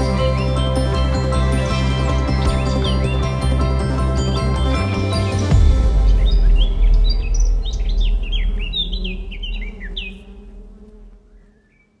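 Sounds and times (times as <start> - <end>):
deep rumble: 0.0 - 11.5
bee buzzing: 0.0 - 11.9
birds chirping: 0.0 - 12.0.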